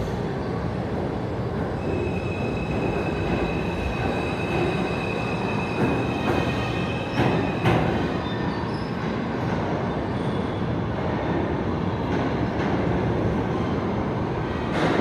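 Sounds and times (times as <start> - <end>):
subway train wheels rumbling on rails: 0.0 - 15.0.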